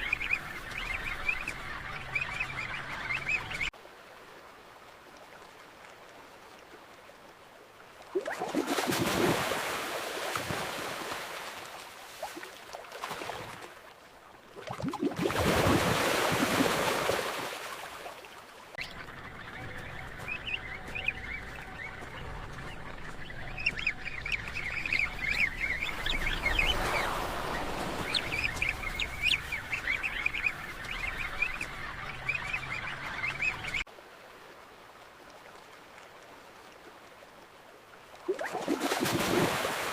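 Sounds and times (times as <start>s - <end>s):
low steady water wash: 0.0s - 39.9s
water rushing: 0.0s - 39.9s.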